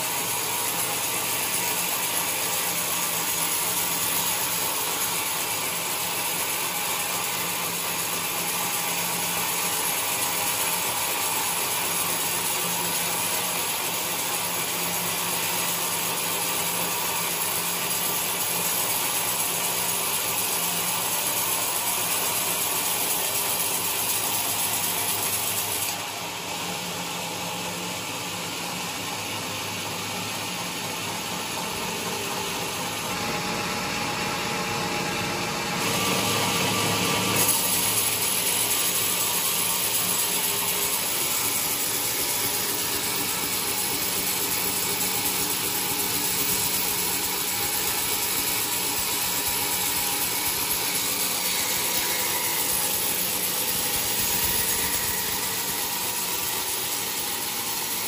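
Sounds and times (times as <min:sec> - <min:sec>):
sawmill sawing a log: 0:00.0 - 0:58.0.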